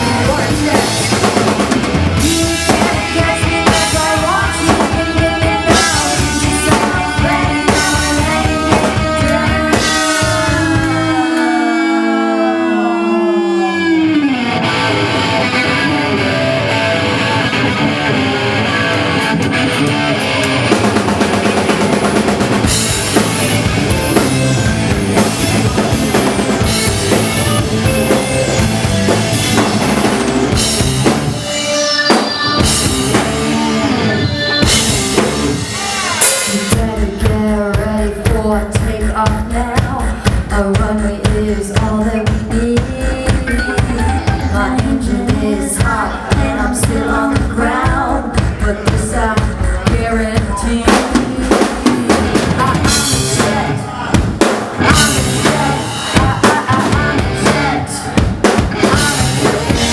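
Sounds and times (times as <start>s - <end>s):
drum kit: 0.0s - 11.9s, 14.3s - 59.9s
live rock band playing: 0.0s - 59.9s.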